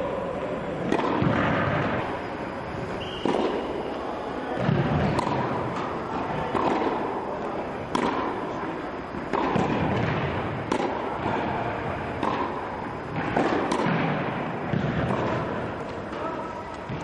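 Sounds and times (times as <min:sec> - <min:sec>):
tennis balls struck by racket: 0:00.8 - 0:02.3, 0:03.0 - 0:17.0.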